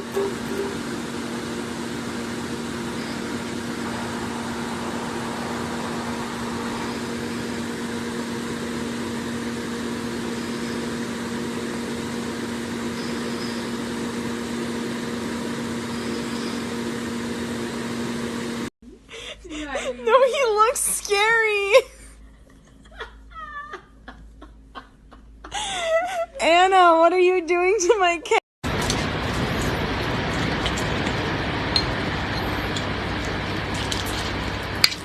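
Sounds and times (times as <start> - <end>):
mechanical hum with hiss: 0.0 - 26.4, 28.7 - 35.0.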